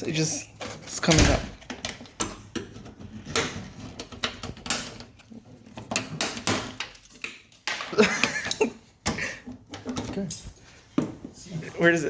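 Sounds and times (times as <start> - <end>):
plastic clips clicking and creaking: 0.6 - 10.4.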